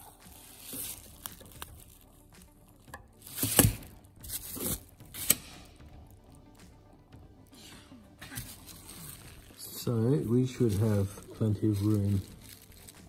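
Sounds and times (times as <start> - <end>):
bubble wrap crinkling: 0.0 - 7.6, 8.2 - 13.0.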